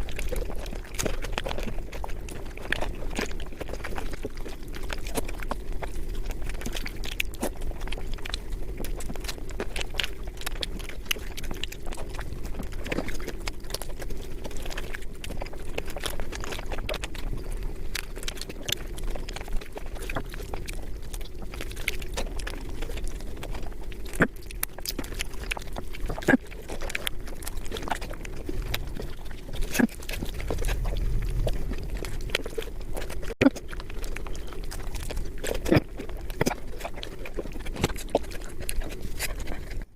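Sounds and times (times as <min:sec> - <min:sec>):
chewing and mouth smacks: 0:00.0 - 0:39.9
steady low hum: 0:00.0 - 0:39.9.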